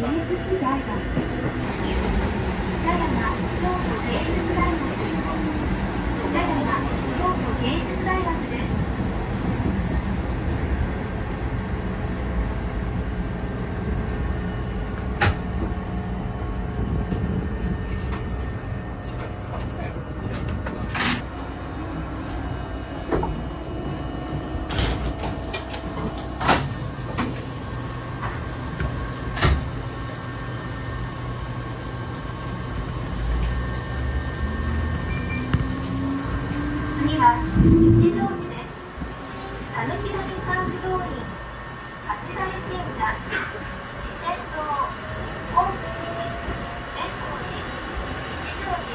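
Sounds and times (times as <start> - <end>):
train low hum: 0.0 - 48.9.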